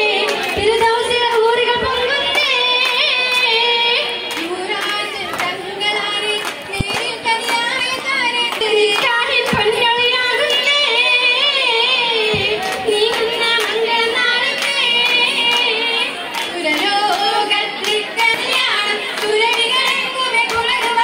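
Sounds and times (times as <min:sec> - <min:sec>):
girls singing: 0:00.0 - 0:21.0
rhythmic hand clapping: 0:00.0 - 0:21.0.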